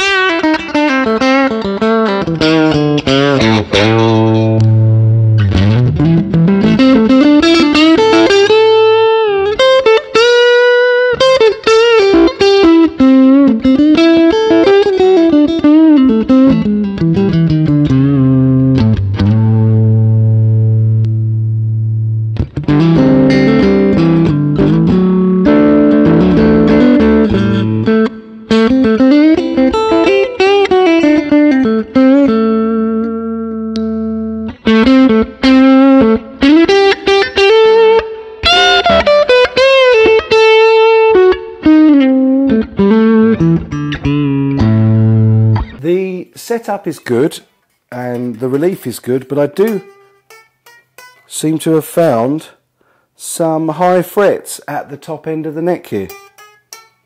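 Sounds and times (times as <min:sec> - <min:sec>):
clean electric guitar melody: 0:00.0 - 0:45.8, 0:49.6 - 0:51.3, 0:56.1 - 0:57.0.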